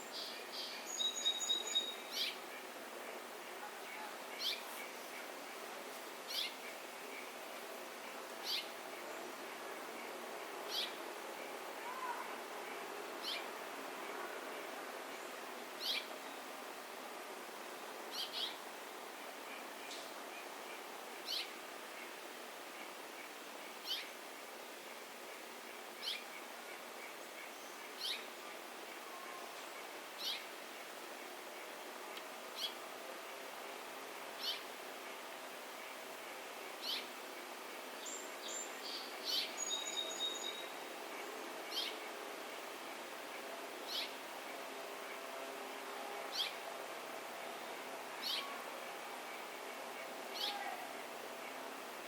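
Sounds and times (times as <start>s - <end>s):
songbird chirps: 0.0s - 45.4s, 46.2s - 52.0s
steady background hiss: 0.0s - 52.0s.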